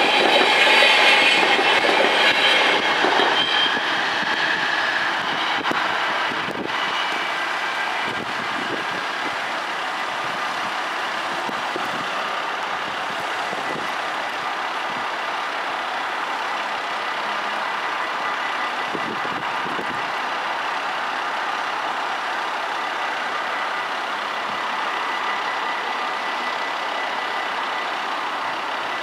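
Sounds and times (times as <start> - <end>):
level crossing warning bells: 0.0 - 29.0.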